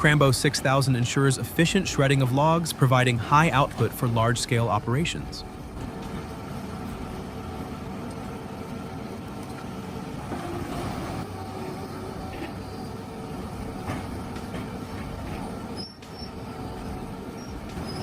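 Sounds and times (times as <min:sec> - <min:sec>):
log shredder running: 0:00.0 - 0:18.0.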